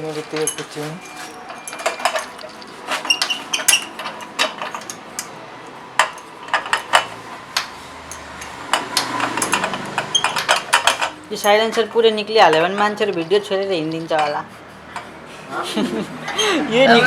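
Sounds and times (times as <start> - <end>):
hand tools clinking on metal: 0.0 - 15.3.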